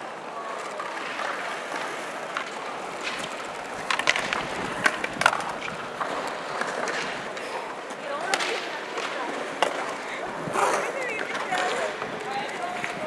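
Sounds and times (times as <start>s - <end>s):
skateboard clacks: 0.0s - 13.0s
skateboard sliding along ledge: 0.0s - 13.0s
skateboard wheels rolling: 0.0s - 13.0s.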